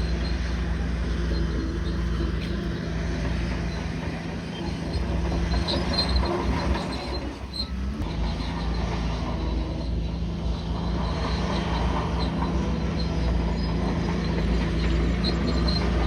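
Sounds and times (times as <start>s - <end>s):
diesel engine humming: 0.0s - 16.0s
steel tracks squealing: 0.0s - 16.0s.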